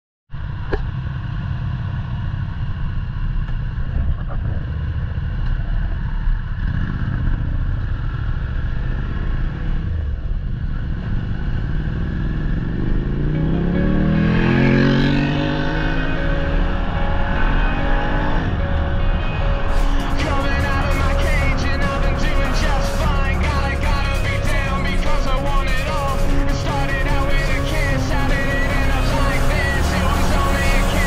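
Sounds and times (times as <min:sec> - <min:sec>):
motorcycle engine: 0:00.4 - 0:31.0.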